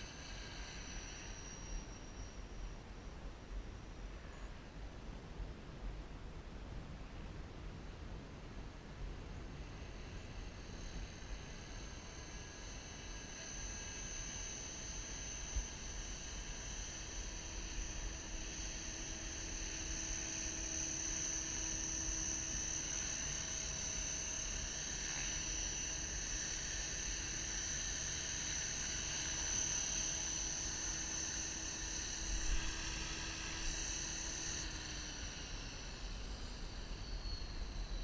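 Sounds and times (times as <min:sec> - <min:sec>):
rc helicopter motor whine: 0:00.0 - 0:04.3, 0:09.0 - 0:38.0.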